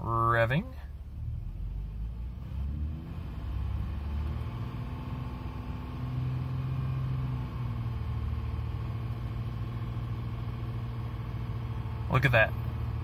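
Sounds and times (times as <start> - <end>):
engine revving: 1.1 - 13.0.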